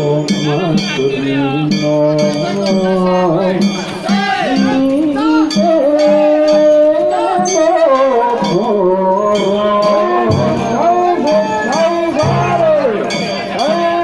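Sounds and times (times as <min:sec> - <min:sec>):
person singing long wavering notes: 0:00.0 - 0:14.0
drum and gong strikes: 0:00.2 - 0:08.7, 0:09.4 - 0:14.0.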